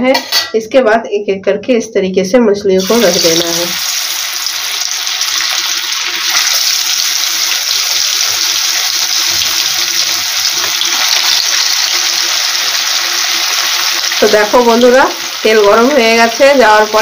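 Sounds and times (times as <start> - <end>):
fish sizzling in hot oil: 2.8 - 17.0.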